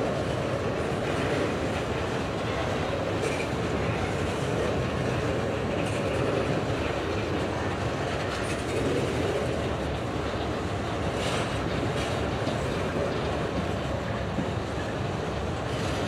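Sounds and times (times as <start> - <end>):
steel wheels rumbling on rails: 0.0 - 16.0.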